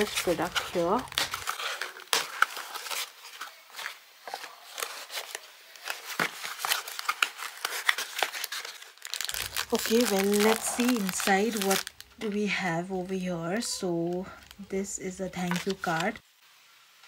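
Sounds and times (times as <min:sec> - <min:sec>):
packaging crinkling and rustling: 0:00.0 - 0:16.2.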